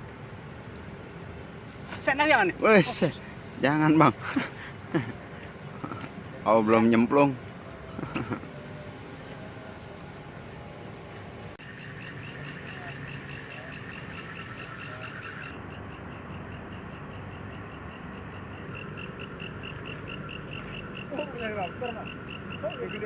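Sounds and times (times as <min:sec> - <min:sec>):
faint insect trilling: 0:00.0 - 0:23.0
loud cricket pulsing: 0:00.0 - 0:23.0.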